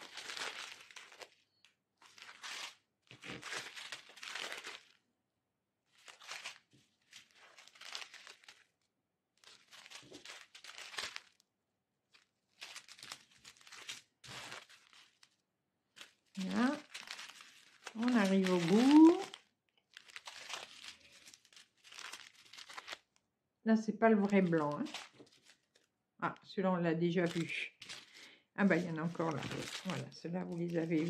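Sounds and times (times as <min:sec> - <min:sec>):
plastic sachets crinkling: 0:00.0 - 0:05.0, 0:05.9 - 0:11.5, 0:12.1 - 0:23.2, 0:24.1 - 0:25.9, 0:27.2 - 0:31.0.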